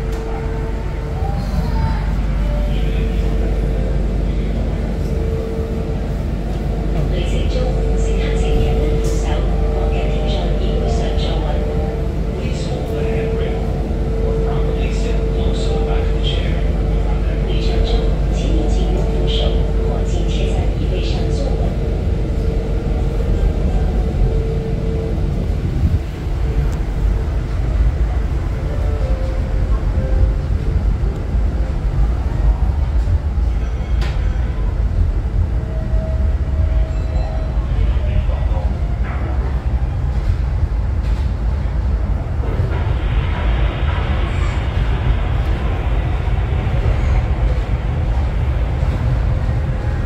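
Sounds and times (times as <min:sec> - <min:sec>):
funicular car rumbling: 0:00.0 - 0:50.0.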